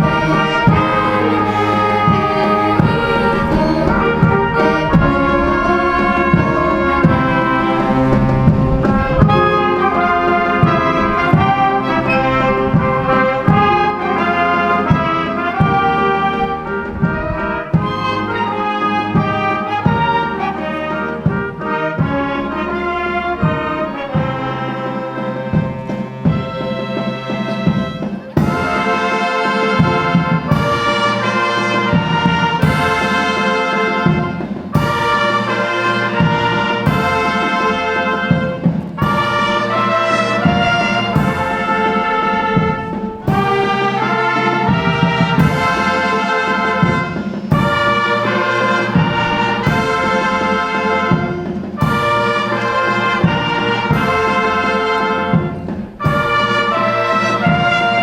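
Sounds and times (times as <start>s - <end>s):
brass ensemble playing chords: 0.0s - 58.0s.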